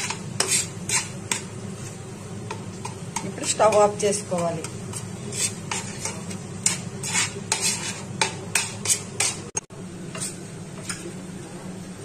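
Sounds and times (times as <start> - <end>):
spoon scraping steel pan: 0.0 - 1.5, 2.8 - 11.0.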